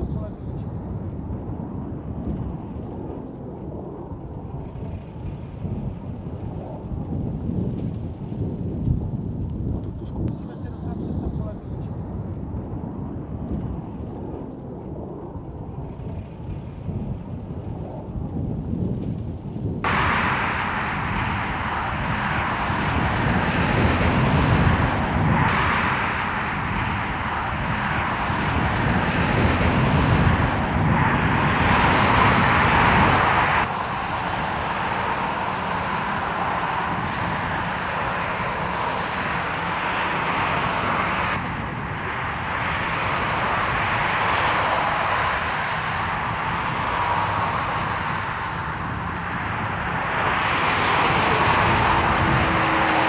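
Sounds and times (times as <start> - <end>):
distant jet engines running: 0.0 - 53.0.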